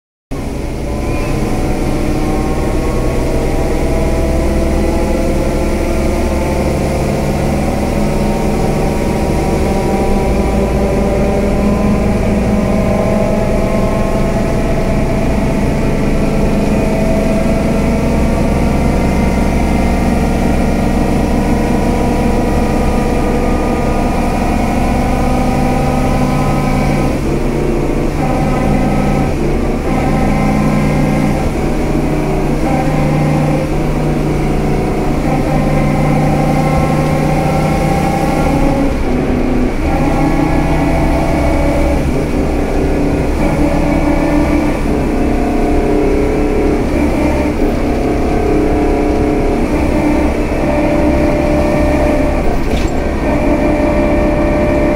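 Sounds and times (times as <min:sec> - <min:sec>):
bus engine running: 0:00.3 - 0:54.9.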